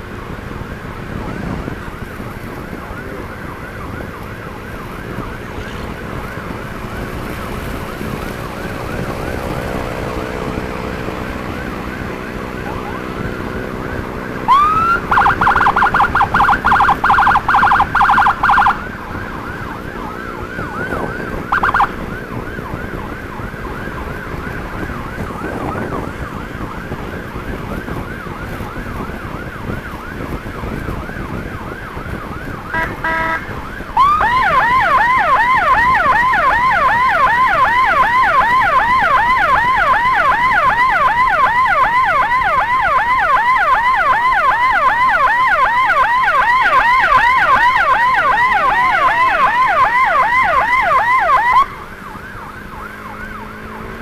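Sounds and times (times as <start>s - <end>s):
road and engine noise: 0.0s - 54.0s
siren yelping: 0.2s - 54.0s.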